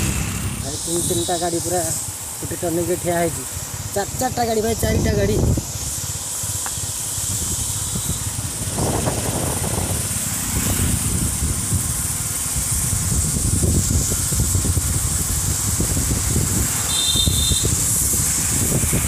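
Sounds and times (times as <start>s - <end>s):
motorcycle road noise: 0.0s - 19.0s
wind buffeting microphone: 0.0s - 19.0s.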